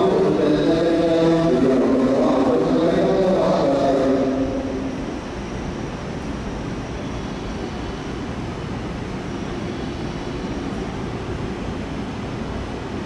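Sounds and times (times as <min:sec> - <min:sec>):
electric train running: 0:00.0 - 0:13.0
faint high whine: 0:00.0 - 0:13.0.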